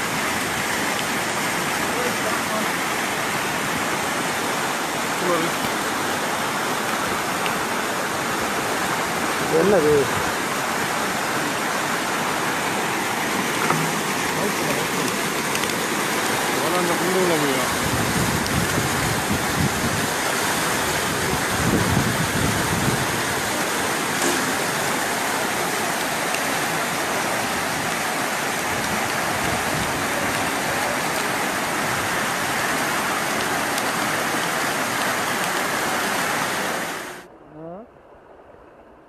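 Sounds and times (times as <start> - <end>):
floodwater rushing: 0.0 - 37.3.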